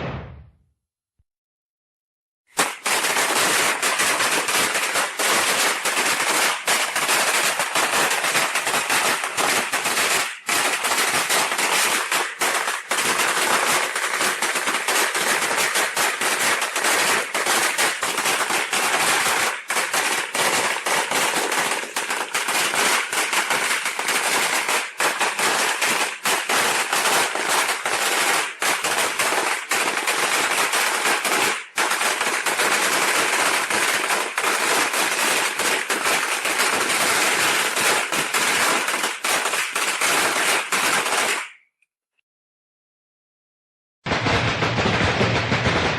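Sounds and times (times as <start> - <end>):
firecrackers crackling: 2.5 - 41.6, 44.1 - 45.9.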